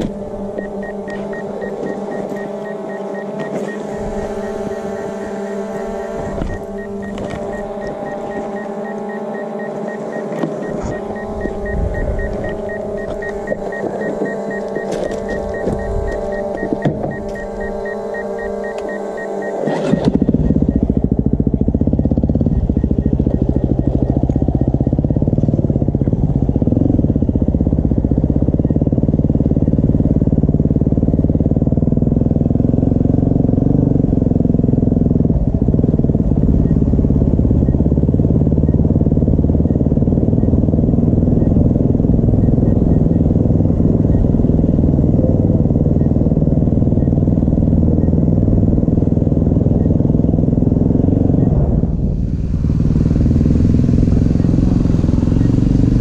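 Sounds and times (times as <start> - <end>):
high steady whine: 0.0 - 56.0
motorcycle engine running: 0.0 - 56.0.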